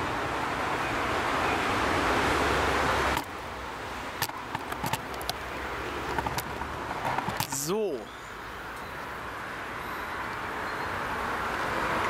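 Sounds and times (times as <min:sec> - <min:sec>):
motorway traffic roar: 0:00.0 - 0:12.0.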